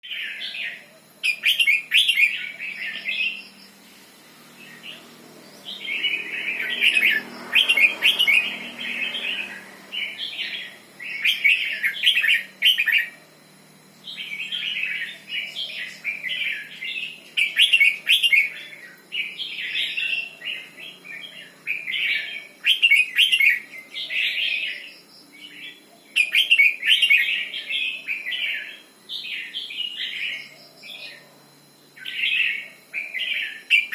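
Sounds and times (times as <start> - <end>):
bulbul singing warbling phrases: 0.0 - 3.8, 4.6 - 13.2, 14.0 - 31.3, 32.0 - 33.9.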